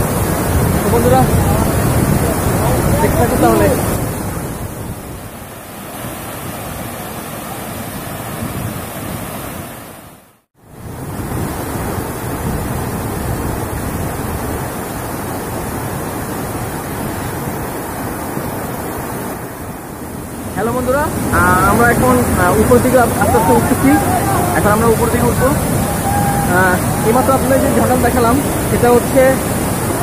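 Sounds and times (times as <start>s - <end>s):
waterfall rushing: 0.0s - 10.0s, 11.5s - 30.0s.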